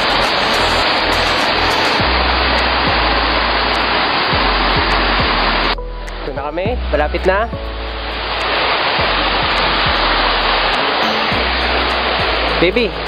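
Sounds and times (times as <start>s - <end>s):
waterfall rushing water: 0.0s - 5.8s, 7.9s - 13.0s
background music with bass line: 0.0s - 13.0s.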